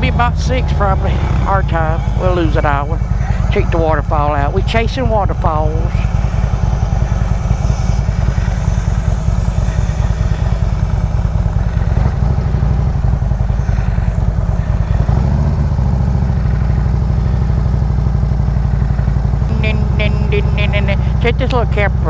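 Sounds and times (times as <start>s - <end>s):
motorcycle engine and exhaust: 0.0s - 22.0s.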